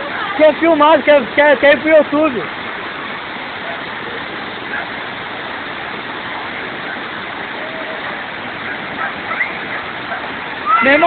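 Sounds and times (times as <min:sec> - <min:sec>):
floodwater rushing in a torrent: 0:00.0 - 0:11.0.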